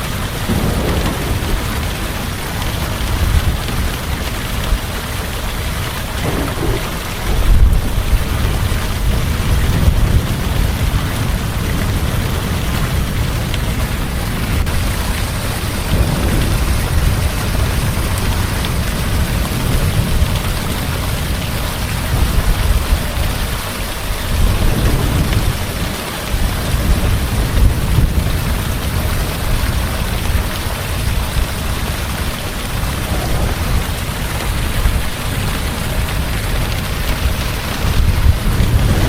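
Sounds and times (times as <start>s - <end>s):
heavy rain falling: 0.0s - 39.0s
thunder rumbling: 0.0s - 39.0s.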